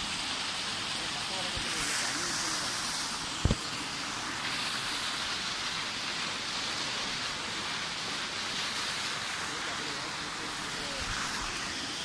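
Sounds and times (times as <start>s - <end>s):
water rushing down rocks: 0.0s - 12.0s.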